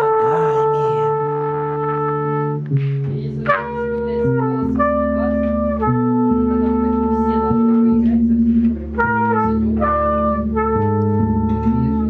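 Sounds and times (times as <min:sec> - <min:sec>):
trumpet playing held notes: 0:00.0 - 0:02.8, 0:03.4 - 0:08.3, 0:08.9 - 0:12.0
sustained bass guitar notes: 0:00.0 - 0:12.0.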